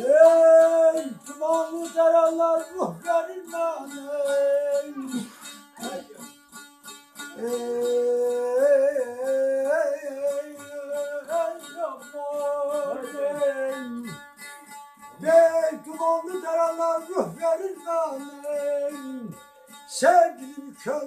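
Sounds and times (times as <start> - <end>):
plucked long-necked lute: 0.0 - 21.0.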